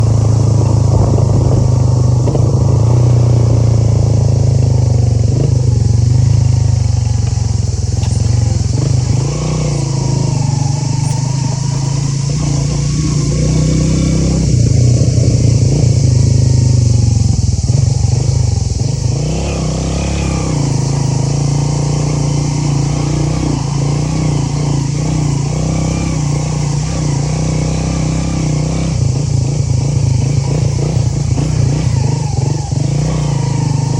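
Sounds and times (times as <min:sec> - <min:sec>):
motorcycle engine running: 0:00.0 - 0:33.9
steady hiss: 0:00.0 - 0:33.9.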